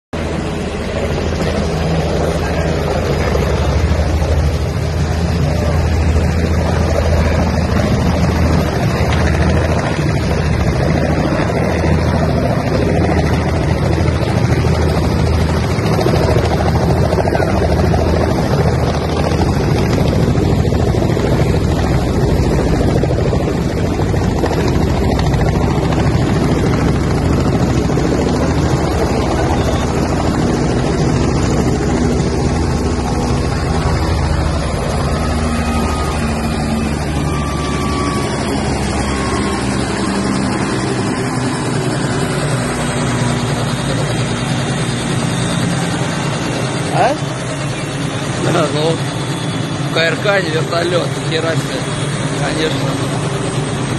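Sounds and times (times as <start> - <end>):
helicopter engine and rotor: 0.1 - 53.9.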